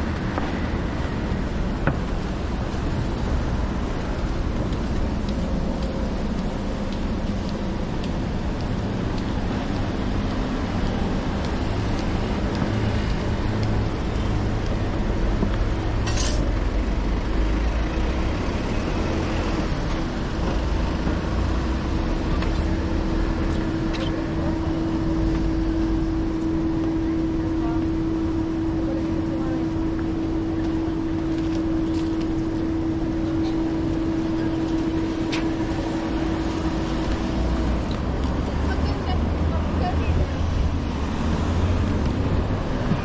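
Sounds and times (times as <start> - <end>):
road vehicles passing: 0.0 - 43.0.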